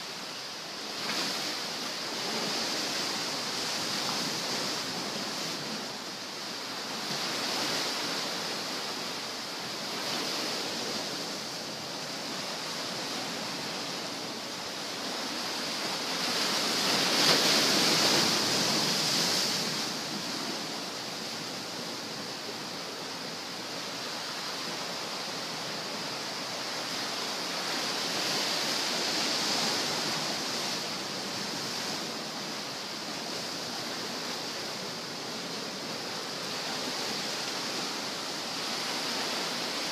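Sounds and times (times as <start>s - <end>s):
sea surf washing ashore: 0.0s - 39.9s.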